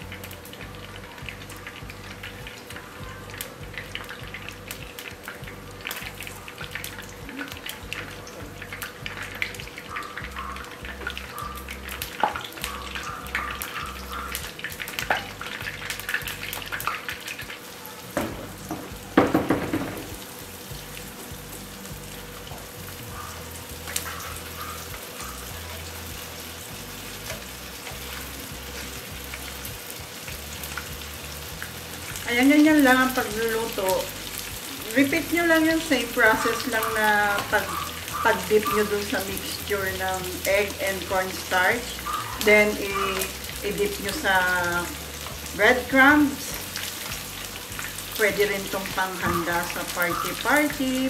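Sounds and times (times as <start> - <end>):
tofu deep-frying in oil: 0.0 - 51.0.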